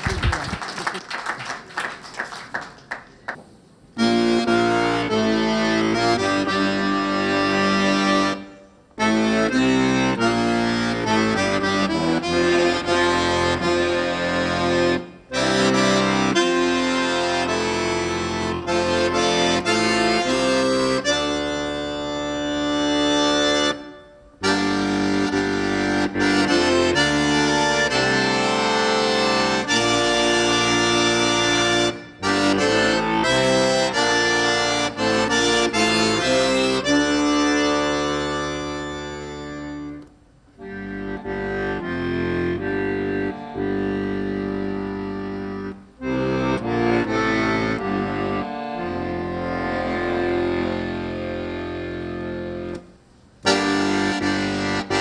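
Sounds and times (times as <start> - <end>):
button accordion playing: 4.0 - 55.0.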